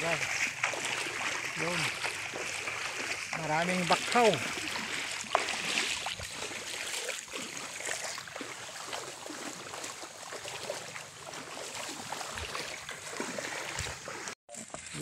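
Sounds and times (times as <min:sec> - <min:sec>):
footsteps splashing in shallow water: 0:00.0 - 0:15.0.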